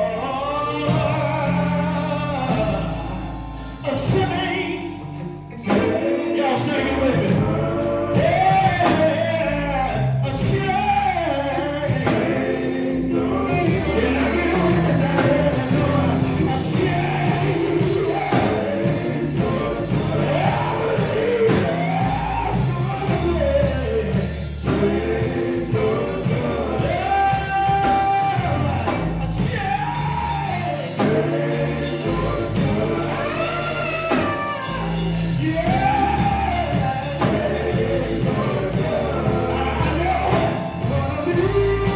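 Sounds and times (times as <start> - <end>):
live band playing: 0.0 - 41.9
male vocal group singing gospel: 0.0 - 41.9.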